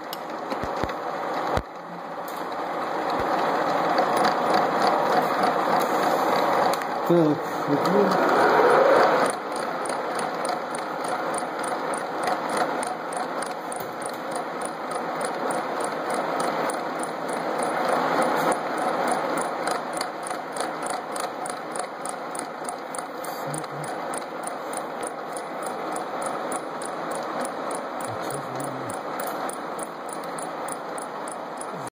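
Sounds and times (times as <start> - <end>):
metal lathe running: 2.5 - 31.9.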